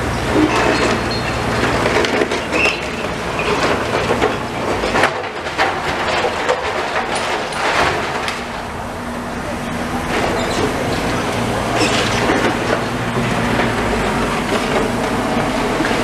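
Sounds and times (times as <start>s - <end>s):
rubble clattering and crunching: 0.1s - 9.0s, 9.8s - 16.0s.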